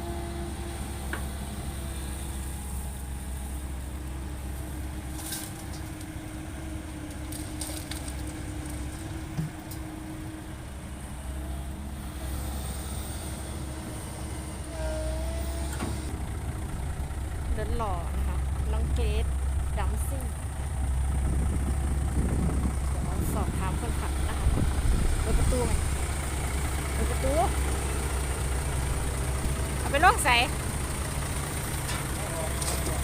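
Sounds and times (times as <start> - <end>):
heavy diesel engines running: 0.0 - 33.0.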